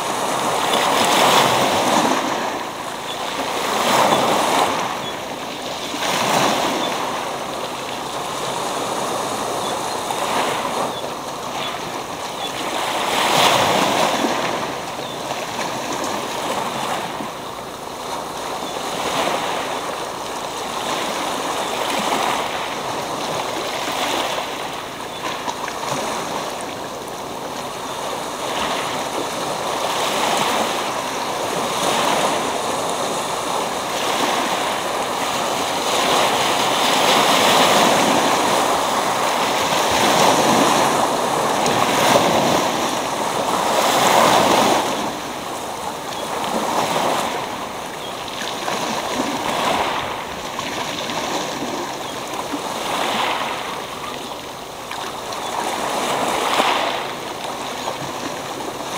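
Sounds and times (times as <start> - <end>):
waves washing over pebbles: 0.0 - 58.9.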